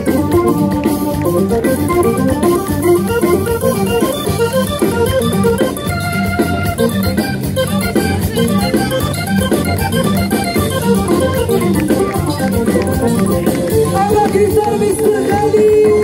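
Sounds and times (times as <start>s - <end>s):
organ keyboard runs: 0.0s - 15.2s
live band music: 0.0s - 16.0s.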